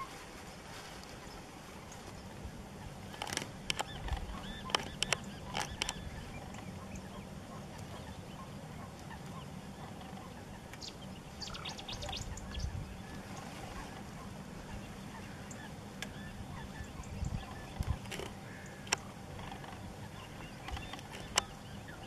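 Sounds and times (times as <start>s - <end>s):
steady low hum: 0.0s - 22.0s
short sharp bird calls: 3.1s - 22.0s.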